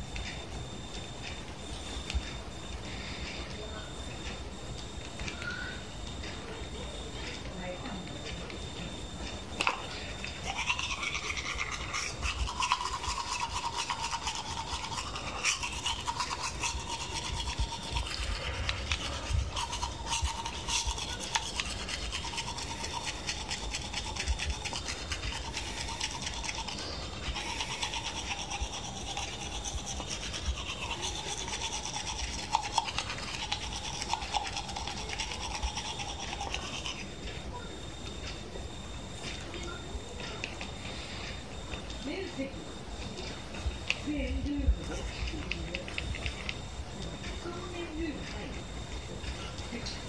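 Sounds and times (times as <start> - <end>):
toothbrush scrubbing teeth: 0.0 - 38.3, 44.8 - 48.3.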